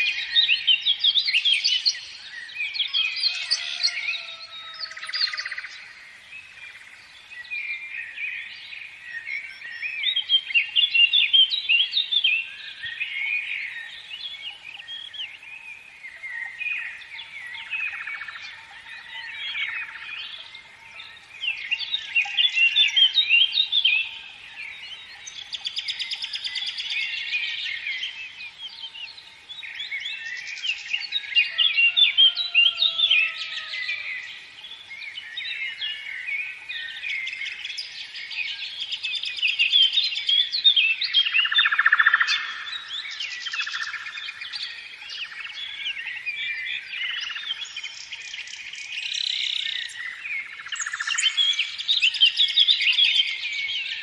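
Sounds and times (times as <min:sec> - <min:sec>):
songbirds chirping and whistling: 0:00.0 - 0:54.0.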